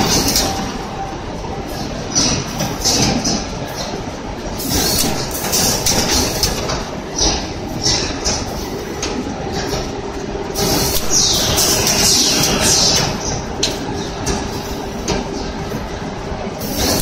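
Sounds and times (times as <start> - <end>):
machine rollers clattering: 0.0 - 17.0.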